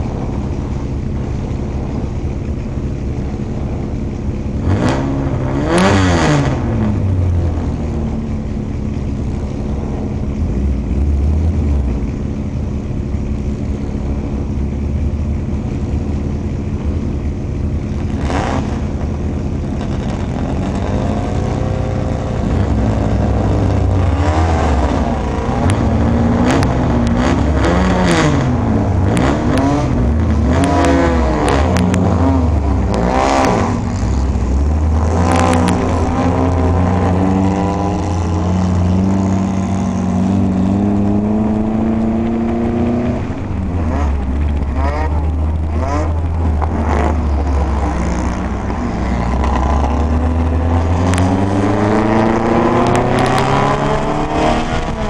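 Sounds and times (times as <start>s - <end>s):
engine throttle blips: 0.0s - 55.0s
race car engines idling: 0.0s - 55.0s.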